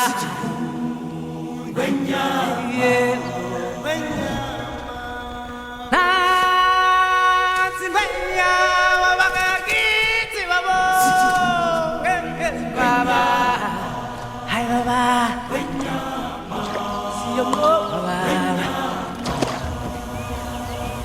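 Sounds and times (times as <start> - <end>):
voices singing with vibrato: 0.0 - 21.0.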